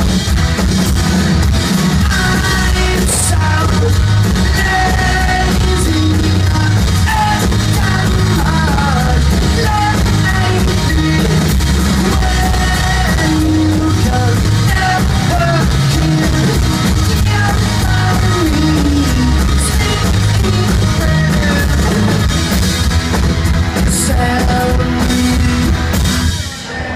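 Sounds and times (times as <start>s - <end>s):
bass guitar: 0.0s - 26.9s
drum kit: 0.0s - 26.9s
electric guitar: 0.0s - 26.9s.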